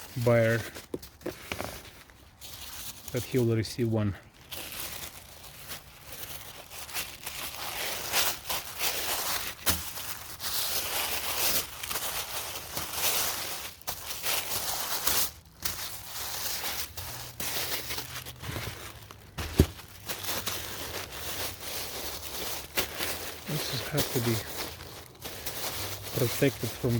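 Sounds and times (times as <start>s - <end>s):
packing paper crumpling: 0.0s - 26.9s.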